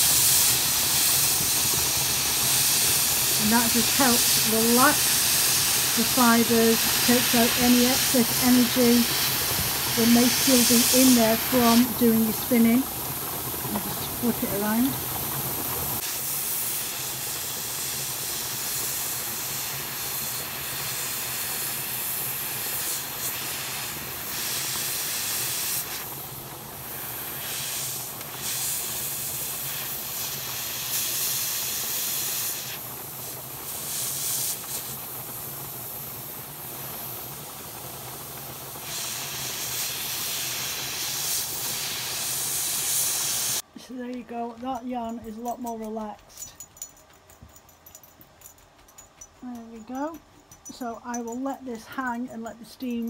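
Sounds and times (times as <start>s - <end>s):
steam hissing from kettle: 0.0s - 44.4s, 47.6s - 53.0s.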